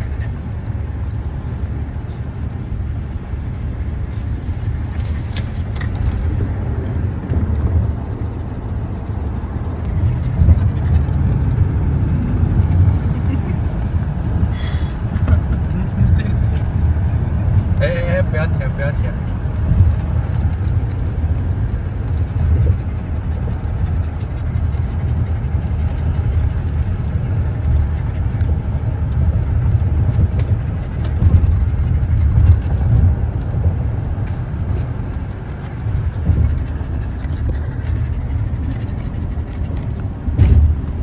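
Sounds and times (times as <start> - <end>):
car cabin road noise: 0.0 - 41.0.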